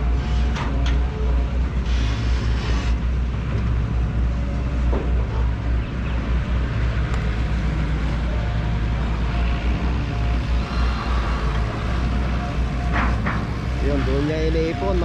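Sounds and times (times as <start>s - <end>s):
backhoe diesel engine rumbling: 0.0s - 15.0s.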